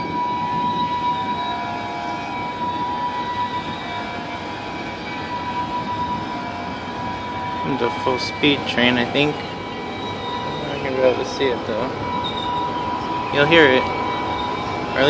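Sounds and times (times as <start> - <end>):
steady high ringing tones: 0.0 - 15.0
train rumbling: 0.0 - 15.0.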